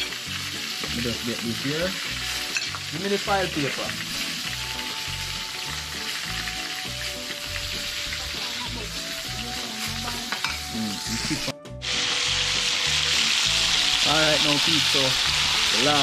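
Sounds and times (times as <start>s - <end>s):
hot oil sizzling: 0.0s - 16.0s
soft background music: 0.0s - 16.0s.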